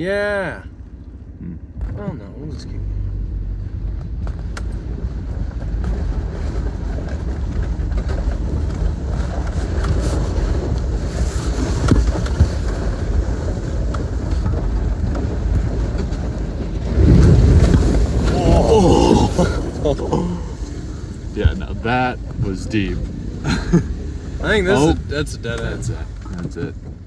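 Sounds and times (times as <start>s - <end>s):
truck engine running: 0.0s - 27.0s
tyres rumbling over rough ground: 0.0s - 27.0s.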